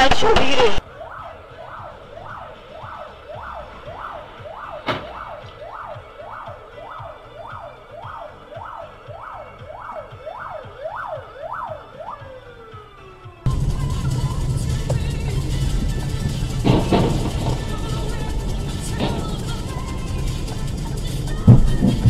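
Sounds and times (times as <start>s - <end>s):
siren yelping: 0.0s - 22.0s.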